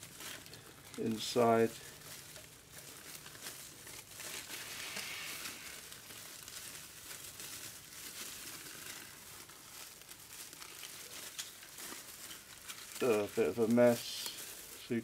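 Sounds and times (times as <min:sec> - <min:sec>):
plastic and foil crinkling: 0:00.0 - 0:15.0.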